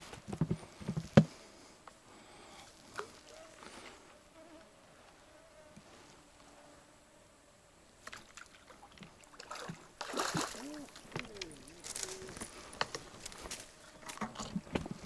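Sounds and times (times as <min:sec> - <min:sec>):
insect buzzing: 0:02.2 - 0:14.8.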